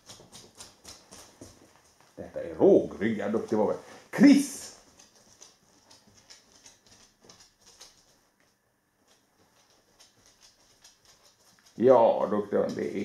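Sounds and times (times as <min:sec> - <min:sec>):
dog claws clicking on hard floor: 0:00.0 - 0:02.2, 0:02.9 - 0:03.8, 0:04.7 - 0:12.0.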